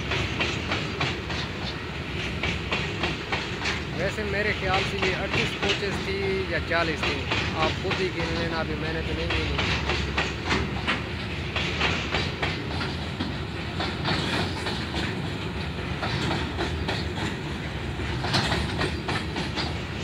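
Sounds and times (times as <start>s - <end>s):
train rumble: 0.0s - 20.0s
train wheels clacking: 0.0s - 20.0s.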